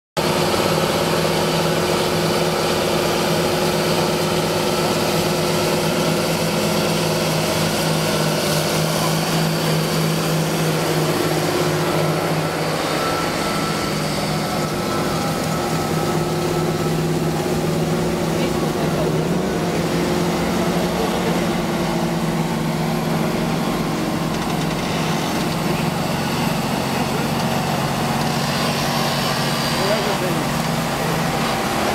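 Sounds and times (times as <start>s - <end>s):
tractor diesel engine under load: 0.2s - 31.9s.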